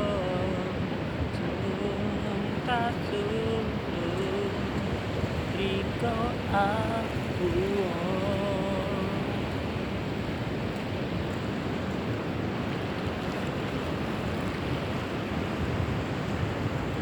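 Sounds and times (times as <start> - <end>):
ocean waves washing onto beach: 0.0 - 17.0.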